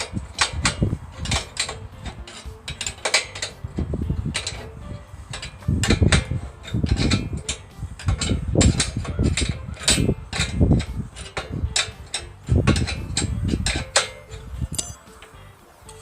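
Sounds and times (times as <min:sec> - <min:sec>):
metallic clinks and knocks: 0:00.0 - 0:16.0.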